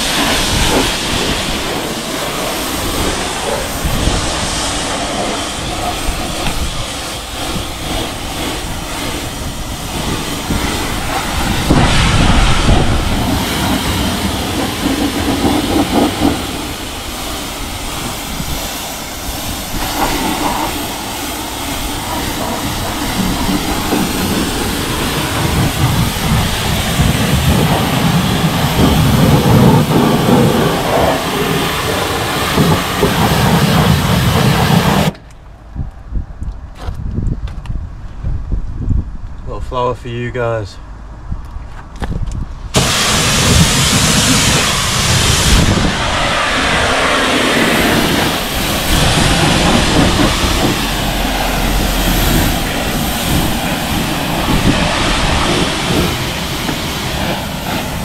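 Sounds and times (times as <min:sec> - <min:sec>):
pressure washer spraying: 0:00.0 - 0:35.2, 0:42.8 - 0:58.0.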